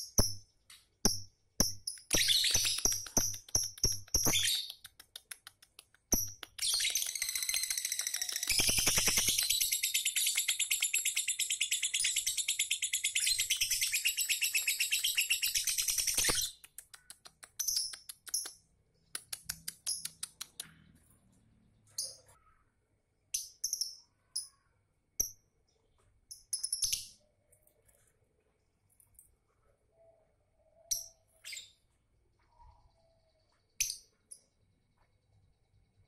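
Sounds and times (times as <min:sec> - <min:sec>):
bird chirps and clicks: 0:00.0 - 0:30.2, 0:30.8 - 0:36.0.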